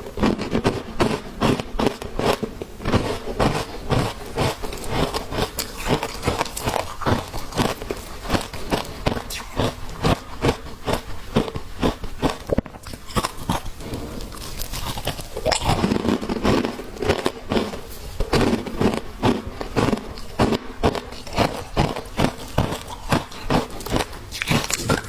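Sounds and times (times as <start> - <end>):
chewing crunchy ice: 0.0 - 25.0.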